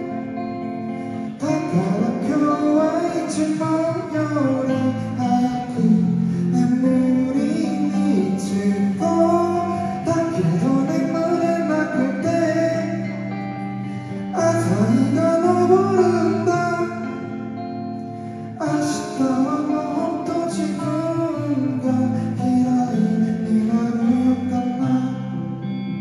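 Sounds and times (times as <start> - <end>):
live pop-rock band: 0.0 - 26.0
person singing: 0.0 - 26.0.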